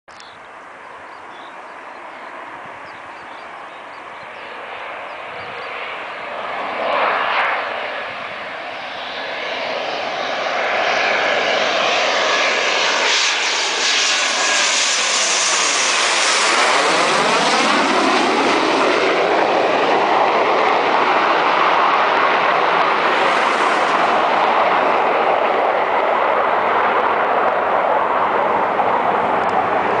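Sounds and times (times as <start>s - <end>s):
jet engines roaring overhead: 0.1s - 30.0s.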